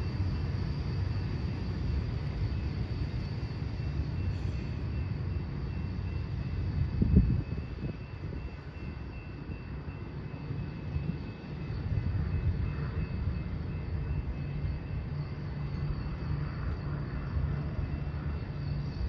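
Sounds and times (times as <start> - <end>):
rail cars rumbling: 0.0 - 19.0.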